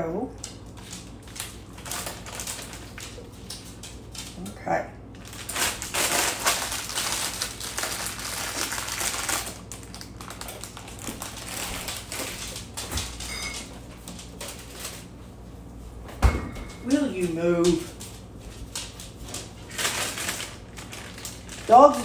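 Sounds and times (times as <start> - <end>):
plastic bag crinkling: 0.6 - 4.4, 5.1 - 15.1, 16.9 - 22.0.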